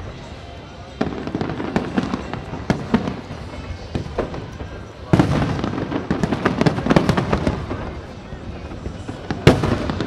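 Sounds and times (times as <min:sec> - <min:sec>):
fireworks bursting: 0:00.9 - 0:10.0.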